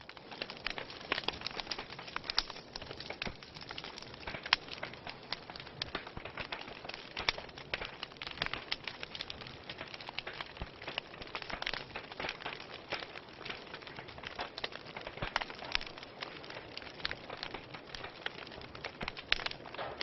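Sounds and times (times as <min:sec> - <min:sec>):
logs crackling and popping: 0:00.0 - 0:20.0
wood fire hissing: 0:00.0 - 0:20.0.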